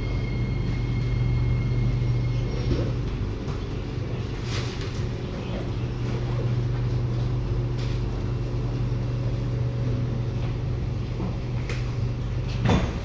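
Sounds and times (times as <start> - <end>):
low hum inside metro car: 0.0 - 13.0.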